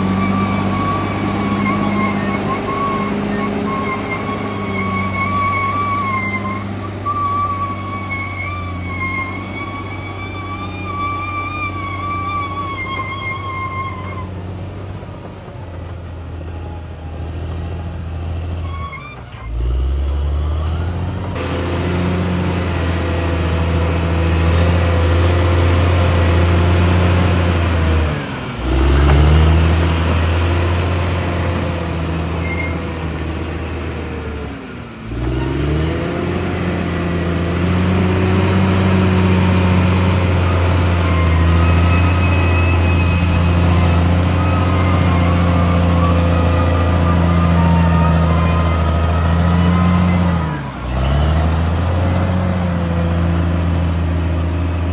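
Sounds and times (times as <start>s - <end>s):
bulldozer diesel engine under load: 0.0s - 54.9s.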